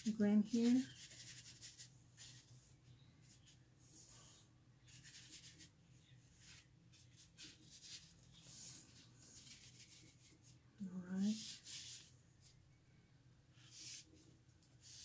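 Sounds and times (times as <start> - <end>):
paintbrush swishing on paper: 0.0 - 10.6, 11.2 - 12.6, 13.6 - 15.0.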